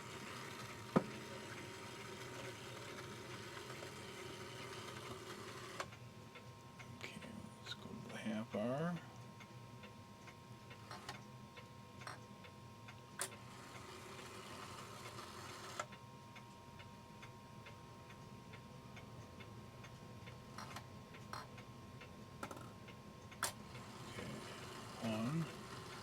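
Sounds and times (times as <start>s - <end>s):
clock mechanism clicks: 0.0s - 6.6s, 9.8s - 12.3s, 12.9s - 16.0s, 17.2s - 26.0s
faint clock ticking: 0.0s - 26.0s.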